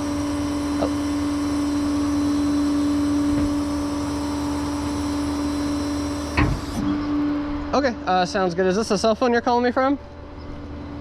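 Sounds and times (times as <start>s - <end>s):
vehicle cab drone: 0.0s - 9.1s.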